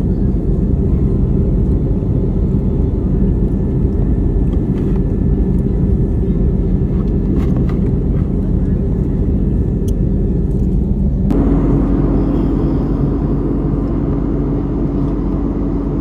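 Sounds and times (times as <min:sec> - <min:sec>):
jet engines in airliner cabin: 0:00.0 - 0:16.0.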